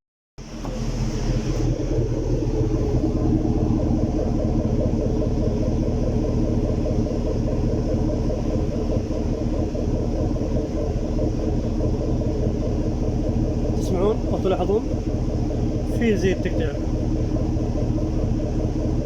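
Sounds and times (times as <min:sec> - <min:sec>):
engine idling with stuttering exhaust: 0:00.4 - 0:19.0.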